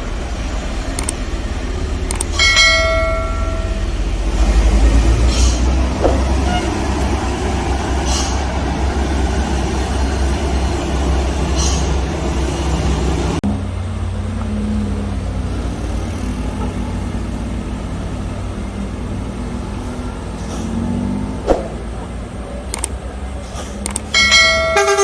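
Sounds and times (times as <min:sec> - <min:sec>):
heavy vehicle engines running: 0:00.0 - 0:25.0.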